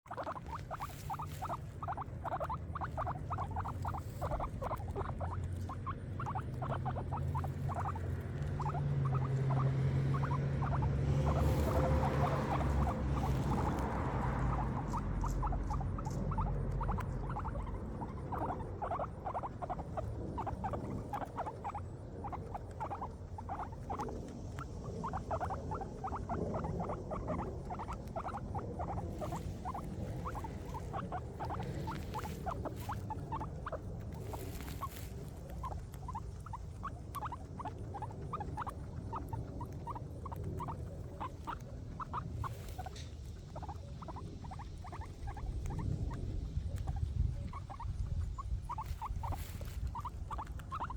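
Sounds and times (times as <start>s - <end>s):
guinea pigs chewing grass: 0.0s - 50.9s.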